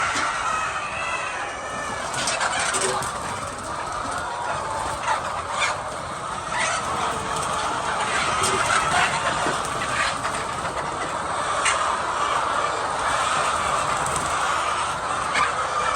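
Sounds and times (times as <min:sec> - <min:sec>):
chickens clucking: 0:00.0 - 0:15.9
steady background noise: 0:00.0 - 0:15.9.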